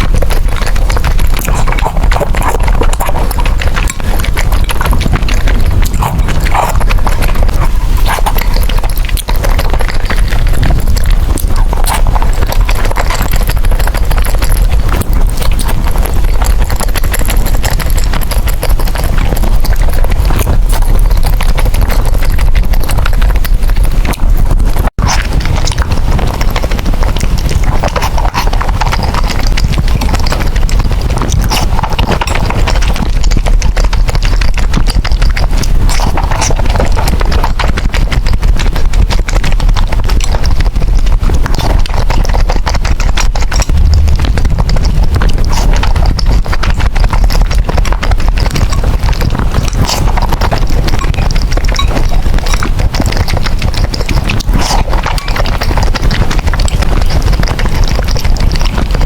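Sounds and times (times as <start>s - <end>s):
noodles chewed and slurped: 0.0s - 59.0s.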